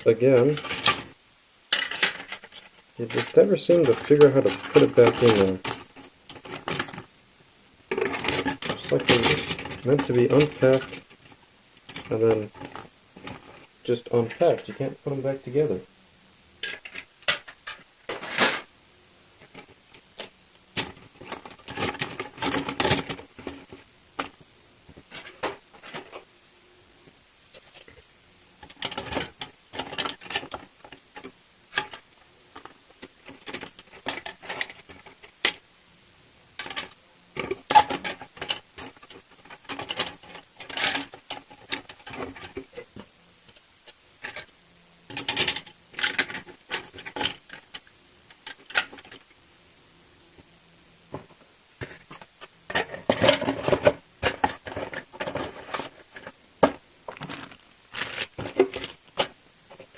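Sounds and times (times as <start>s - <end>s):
plastic parts rustling and clicking: 0.1s - 7.1s, 7.9s - 14.8s, 16.6s - 18.7s, 19.4s - 26.3s, 27.5s - 35.7s, 36.6s - 49.4s, 51.1s - 59.9s.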